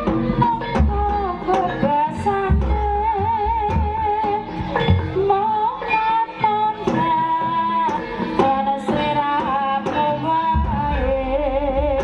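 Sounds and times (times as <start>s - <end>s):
hand drum strokes: 0.0s - 12.0s.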